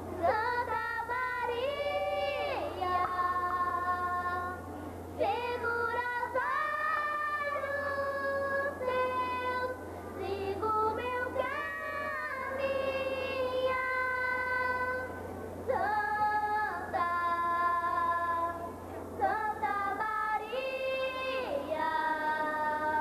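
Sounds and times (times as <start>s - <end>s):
girls singing a hymn: 0.0s - 23.0s
steady low hum: 0.0s - 23.0s.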